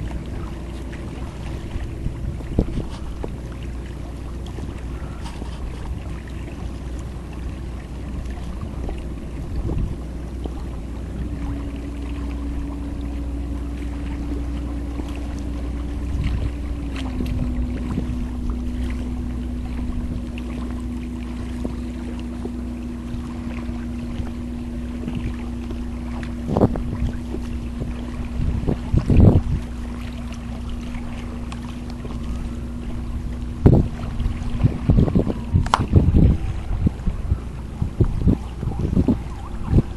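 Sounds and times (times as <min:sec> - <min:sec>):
boat engine hum: 0:00.0 - 0:39.9
small splashes and lapping: 0:00.0 - 0:39.9
water and wind rumble: 0:00.0 - 0:39.9.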